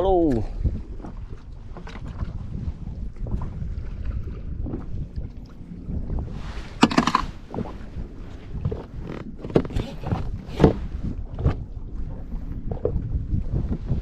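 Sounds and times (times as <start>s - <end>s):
knocks and rattles on kayak: 0.0s - 14.0s
low wind: 0.0s - 14.0s
water rumble: 0.0s - 14.0s.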